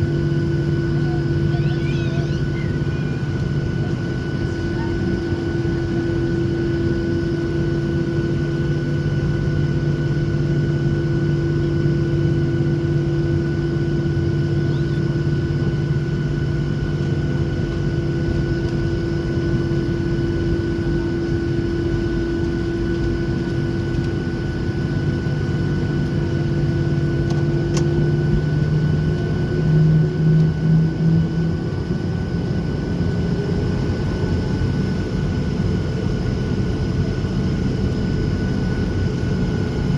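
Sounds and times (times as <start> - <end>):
jet engines idling inside cabin: 0.0 - 39.9.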